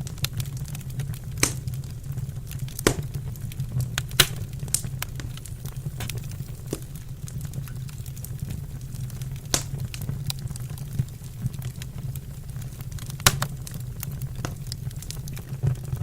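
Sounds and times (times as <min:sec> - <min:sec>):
wood fire crackling: 0:00.0 - 0:16.0
sharp fire pops: 0:00.1 - 0:15.9.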